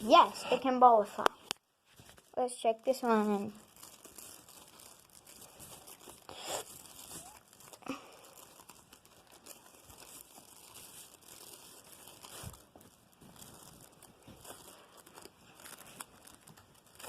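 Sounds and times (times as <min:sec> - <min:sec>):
slime squishing: 0:03.1 - 0:17.0.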